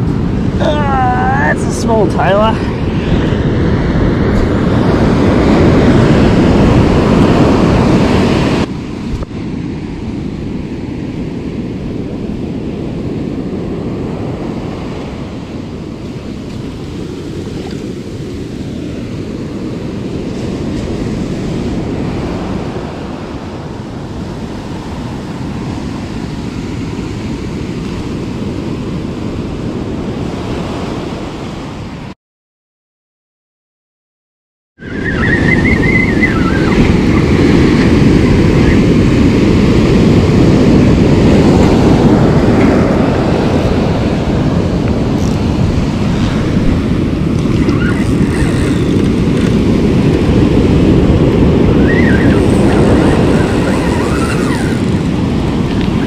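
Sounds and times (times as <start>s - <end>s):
ocean surf washing onto beach: 0.0s - 32.1s, 34.8s - 56.0s.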